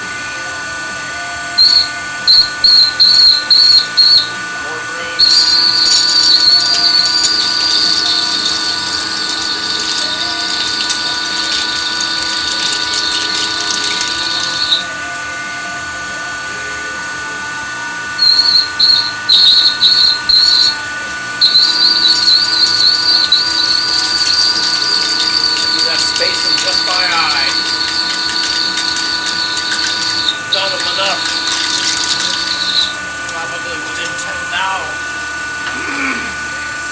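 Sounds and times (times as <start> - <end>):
lathe machine whine: 0.0 - 35.6
cutting tool squealing: 1.6 - 4.4, 5.1 - 15.1, 18.2 - 35.0.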